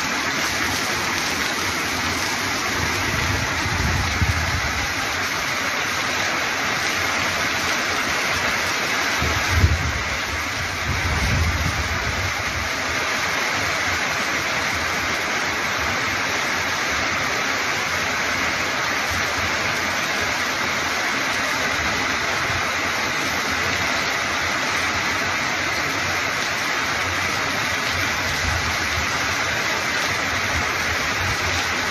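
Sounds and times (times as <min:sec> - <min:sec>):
heavy rain on metal roofs: 0:00.0 - 0:31.9.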